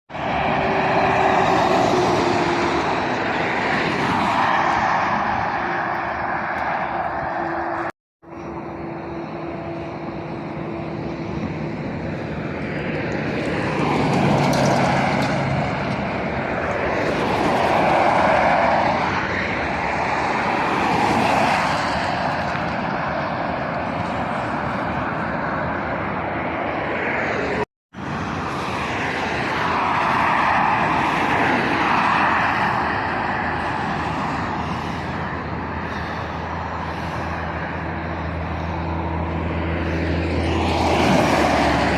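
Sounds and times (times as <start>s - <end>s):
road traffic passing: 0.1s - 41.9s.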